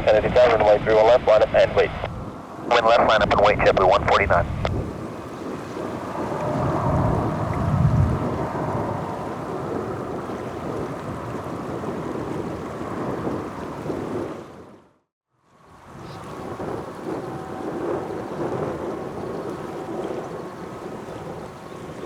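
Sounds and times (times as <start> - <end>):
jet engine roar: 0.0 - 14.6, 16.2 - 22.0.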